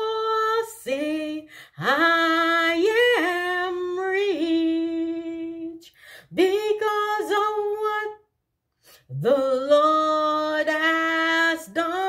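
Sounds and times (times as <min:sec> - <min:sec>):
woman singing a cappella: 0:00.0 - 0:08.3, 0:08.9 - 0:12.0.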